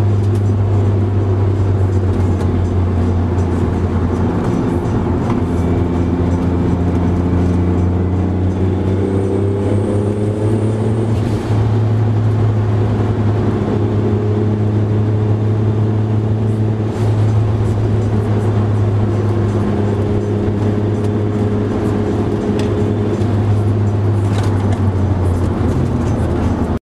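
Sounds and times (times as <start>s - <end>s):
car engine droning inside cabin: 0.0s - 26.8s.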